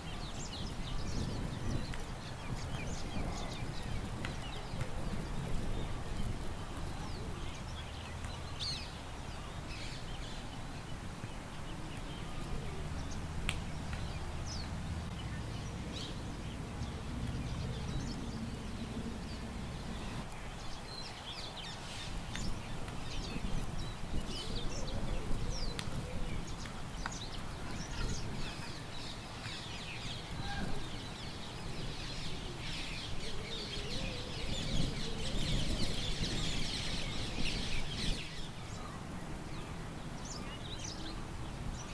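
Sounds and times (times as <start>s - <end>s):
low wind rumble: 0.0s - 41.9s
small birds chirping: 0.0s - 41.9s.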